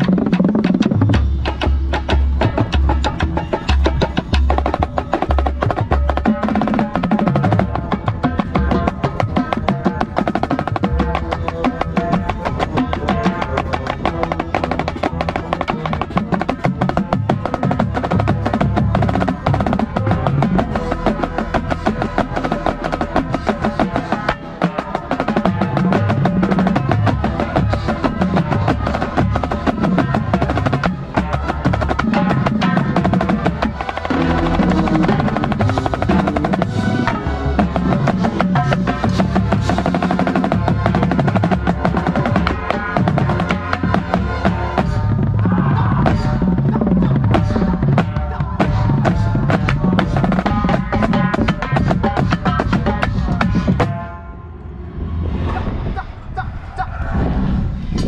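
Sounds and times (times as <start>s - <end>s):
marching snare drum rolls: 0.0s - 54.0s
drum corps brass and percussion: 0.0s - 54.7s.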